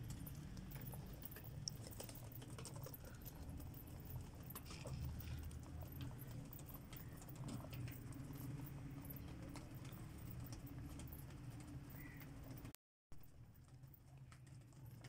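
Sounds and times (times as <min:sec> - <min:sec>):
pigeons pecking on cement: 0:00.0 - 0:15.0.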